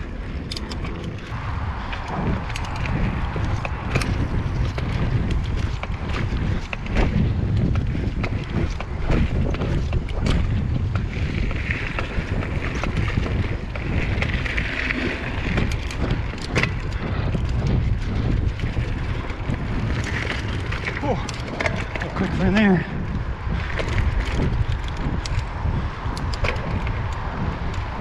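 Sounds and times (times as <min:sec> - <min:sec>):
bike clicks and rattles: 0:00.0 - 0:28.0
wind buffeting microphone: 0:00.0 - 0:28.0
tyre rumble on dirt: 0:02.0 - 0:28.0.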